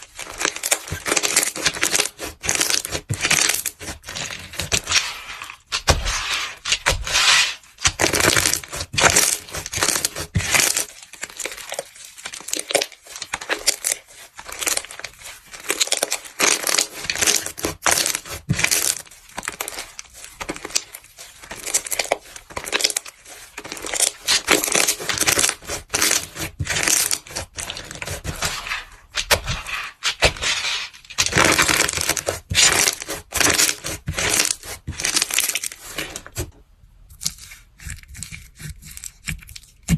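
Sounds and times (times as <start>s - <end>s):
crumbly material crunching and crackling: 0.0s - 39.9s.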